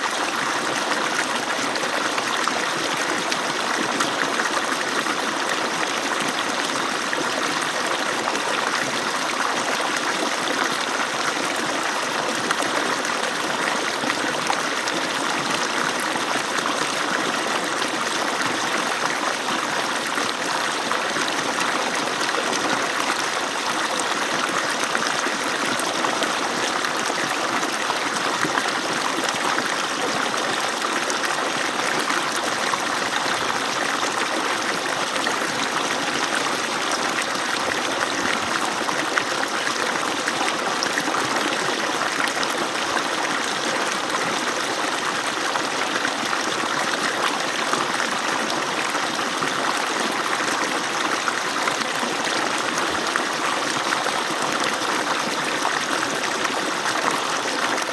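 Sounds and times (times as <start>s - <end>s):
water pouring from pump outlet: 0.0s - 57.9s.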